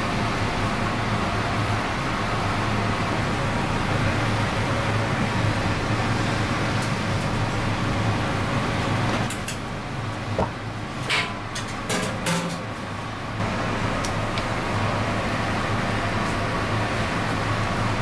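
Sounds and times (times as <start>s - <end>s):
gas burner hum: 0.0s - 18.0s.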